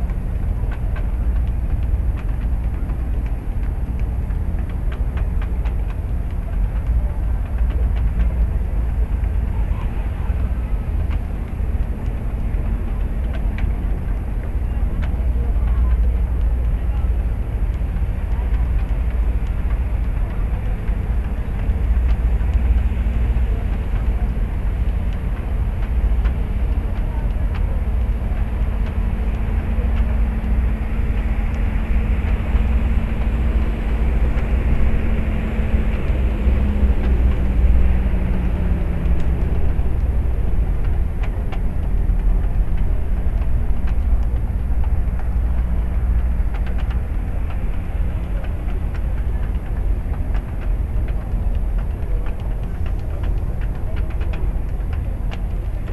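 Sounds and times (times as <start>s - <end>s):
faint hum: 0.0s - 55.9s
ship engine rumbling: 0.0s - 55.9s.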